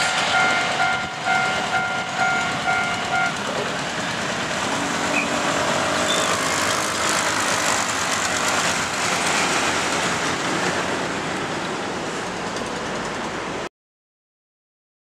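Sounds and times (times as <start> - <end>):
train rumbling on tracks: 0.0 - 13.7.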